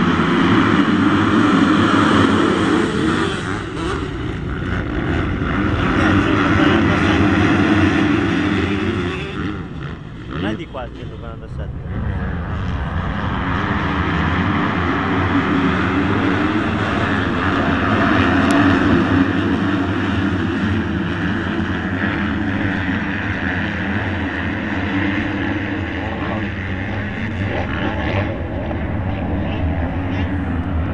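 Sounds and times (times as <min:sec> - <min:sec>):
motocross bike engines droning: 0:00.0 - 0:30.9.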